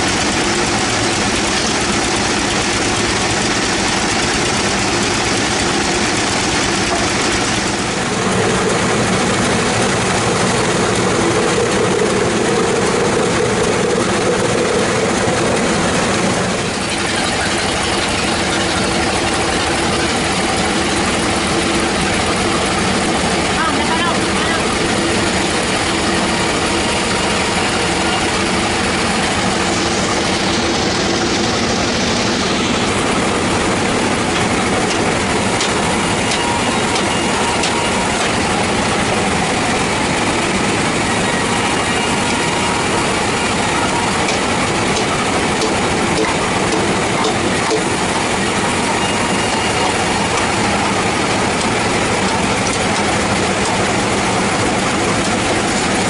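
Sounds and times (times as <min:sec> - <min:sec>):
band saw cutting through log: 0:00.0 - 0:56.0.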